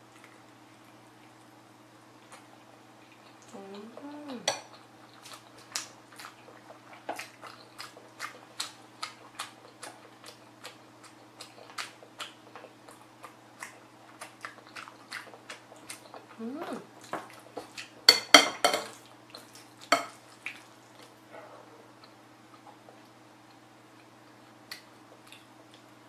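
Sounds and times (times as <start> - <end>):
close chewing with mouth clicks: 0.0 - 18.1, 18.9 - 26.0.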